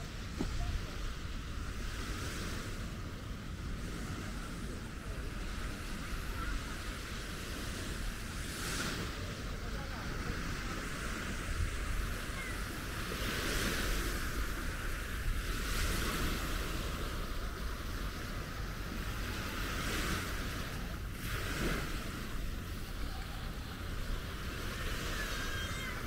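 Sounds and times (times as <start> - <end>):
small waves washing on sand: 0.0 - 26.0
wind on microphone: 0.0 - 26.0.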